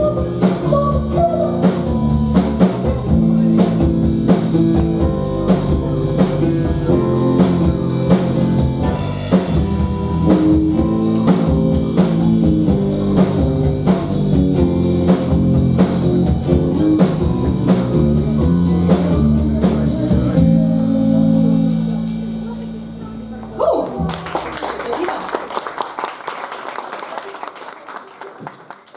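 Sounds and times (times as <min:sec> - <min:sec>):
guitar and bass: 0:00.0 - 0:24.8
drum kit beat: 0:00.0 - 0:25.2.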